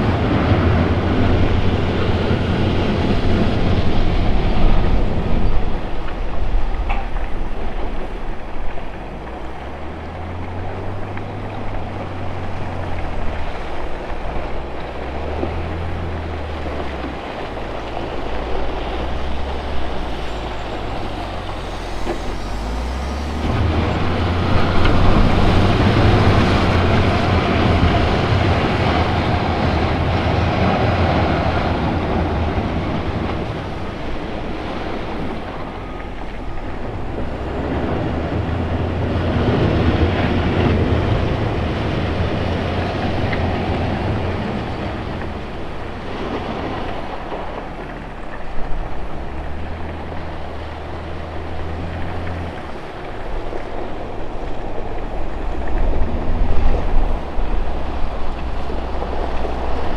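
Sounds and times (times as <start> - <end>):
diesel engine under load: 0.0 - 59.9
gravel rattling: 0.0 - 59.9.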